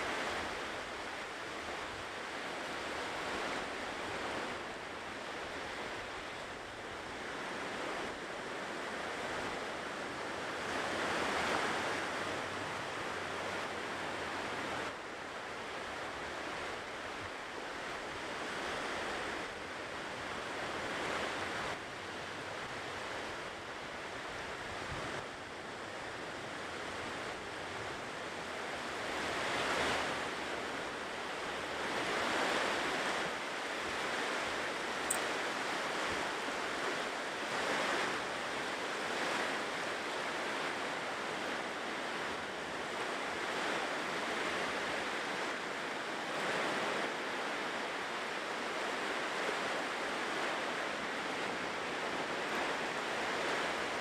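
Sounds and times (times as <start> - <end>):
ocean surf washing onto shore: 0.0 - 54.0.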